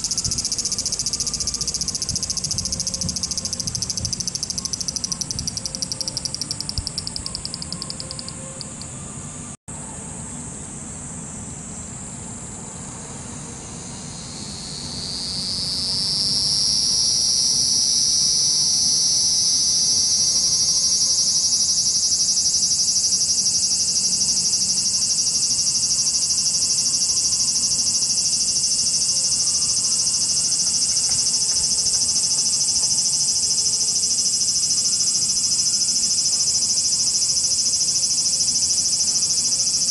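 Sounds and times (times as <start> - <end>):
cicadas buzzing: 0.0 - 9.4, 11.9 - 39.9.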